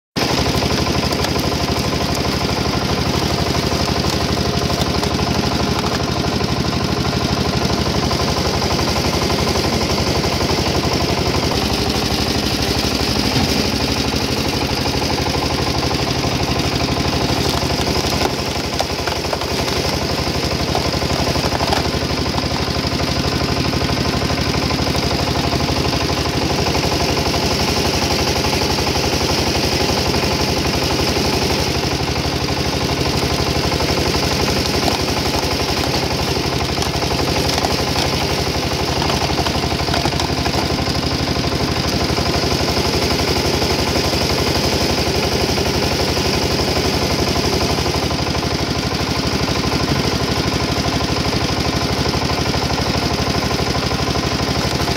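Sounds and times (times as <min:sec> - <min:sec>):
log splitter engine running: 0:00.2 - 0:54.9
logs splitting: 0:00.2 - 0:54.9.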